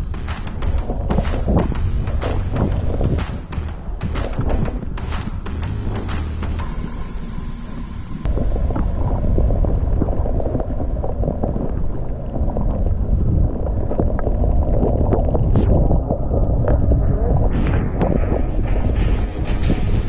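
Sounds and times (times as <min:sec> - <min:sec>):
wind rushing over microphone: 0:00.0 - 0:05.5, 0:08.2 - 0:20.0.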